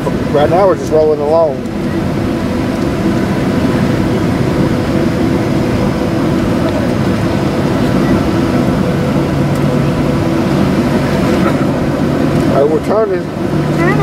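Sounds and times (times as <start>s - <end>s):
jet engines humming: 0.0s - 14.0s
wheels rumbling on taxiway: 0.0s - 14.0s.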